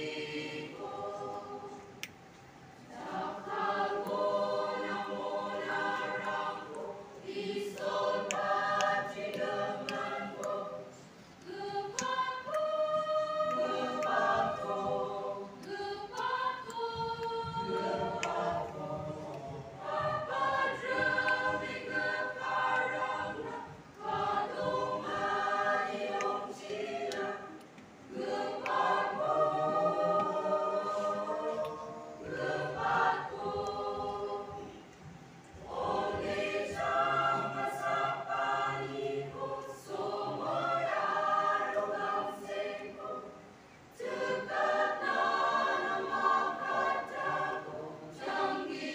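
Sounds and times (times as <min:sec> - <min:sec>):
choir singing in harmony: 0:00.0 - 0:48.9.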